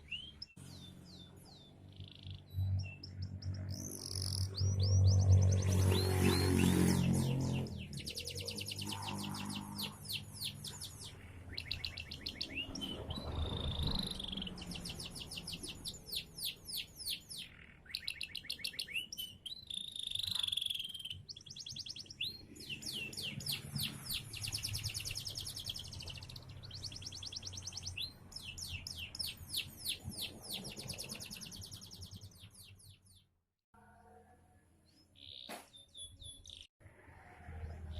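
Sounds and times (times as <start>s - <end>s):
canary singing trills: 0.0s - 33.3s.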